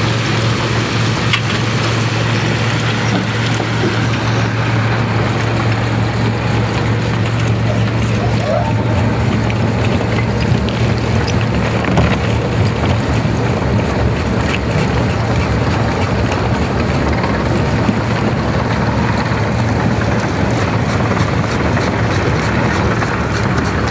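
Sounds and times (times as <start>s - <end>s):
large engine running: 0.0s - 23.9s.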